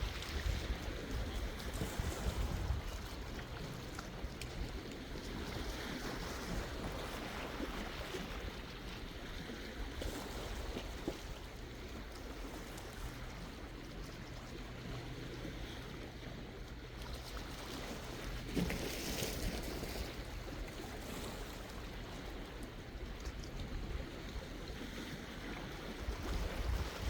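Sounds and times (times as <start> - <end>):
waves lapping on shore: 0.0 - 27.0.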